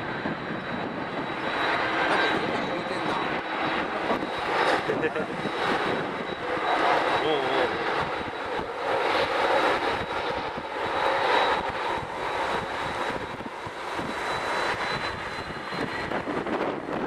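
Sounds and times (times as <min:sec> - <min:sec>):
jet engines roaring and whining: 0:00.0 - 0:17.0
wind buffeting microphone: 0:00.0 - 0:17.0.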